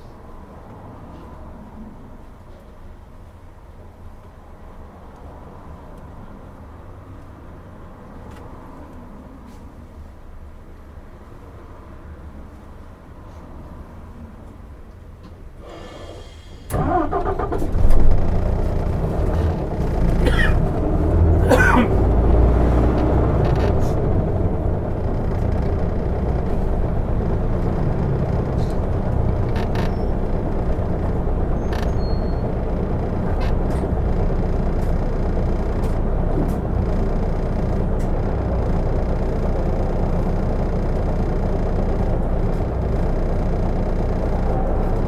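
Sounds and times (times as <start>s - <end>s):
bus engine and road rumble: 0.0s - 45.0s.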